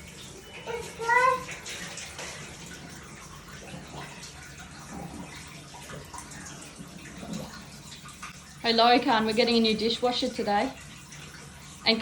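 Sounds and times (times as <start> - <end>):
water draining from dishwasher: 0.0 - 12.0.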